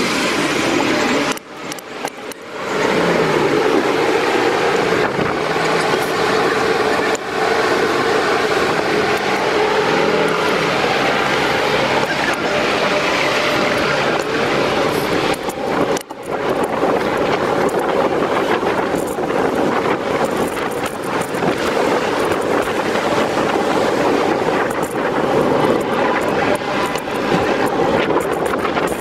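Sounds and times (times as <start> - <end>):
passing vehicles: 0.0 - 29.0
wind on microphone: 0.0 - 29.0.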